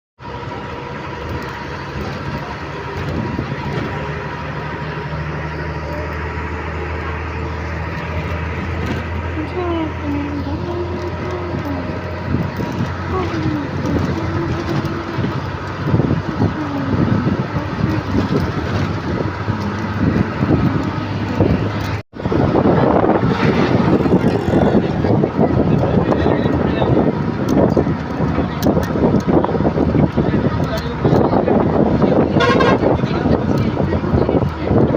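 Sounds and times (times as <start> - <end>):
train rumbling on track: 0.2 - 34.9
wind buffeting microphone: 0.3 - 34.9.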